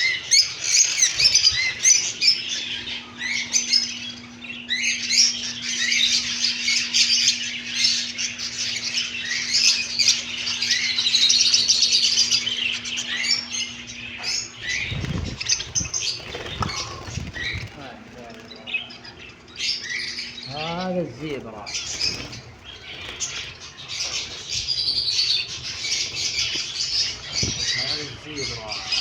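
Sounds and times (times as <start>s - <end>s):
caged birds chirping: 0.0s - 29.0s
steady low hum: 0.0s - 29.0s.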